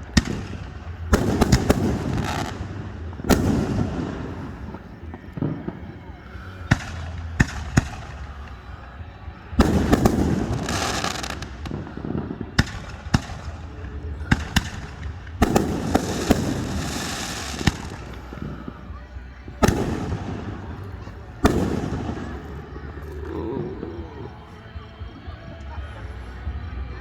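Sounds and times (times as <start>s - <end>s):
fireworks booming: 0.0s - 25.6s
fireworks crackling: 0.0s - 27.0s.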